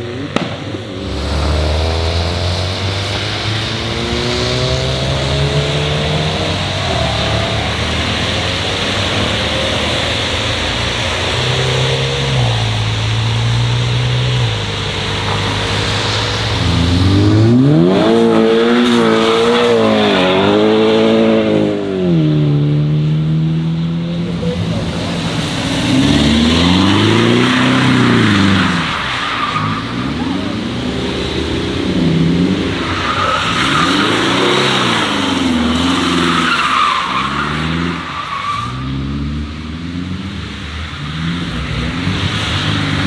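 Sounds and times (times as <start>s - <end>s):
car engines accelerating and passing: 0.0s - 43.0s.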